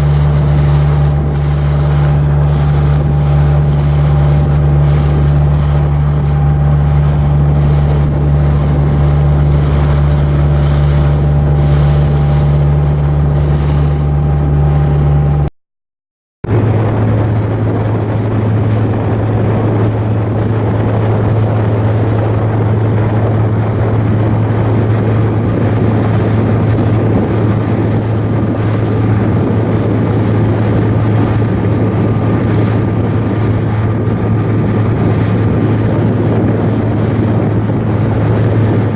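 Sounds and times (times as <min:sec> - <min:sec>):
ship diesel engine humming: 0:00.0 - 0:15.5, 0:16.5 - 0:38.9.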